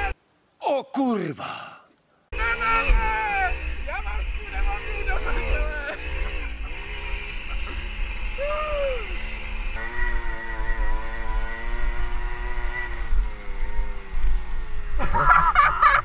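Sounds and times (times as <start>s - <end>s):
two-stroke motorcycle engine: 2.4s - 15.4s.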